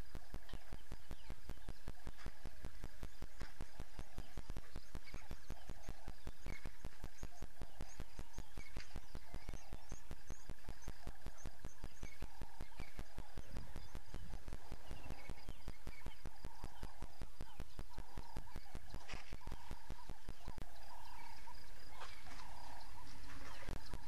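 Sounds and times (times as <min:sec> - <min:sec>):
fast even ticking: 0:00.0 - 0:20.7
birds chirping: 0:00.0 - 0:24.0
faint high drone: 0:00.0 - 0:24.0.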